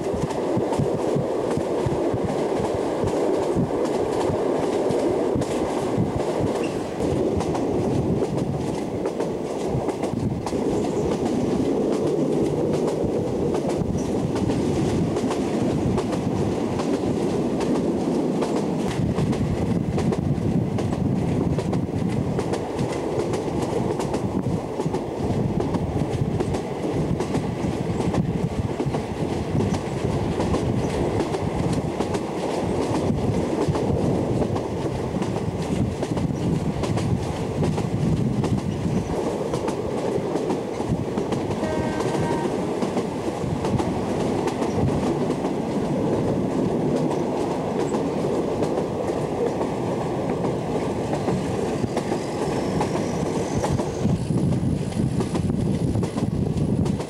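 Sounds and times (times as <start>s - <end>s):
train wheels rumbling and clattering: 0.0s - 57.0s.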